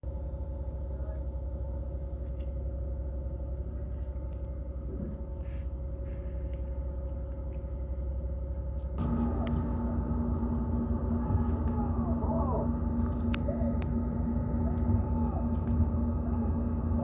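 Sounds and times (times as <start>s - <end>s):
engine running at low speed: 0.0s - 17.0s.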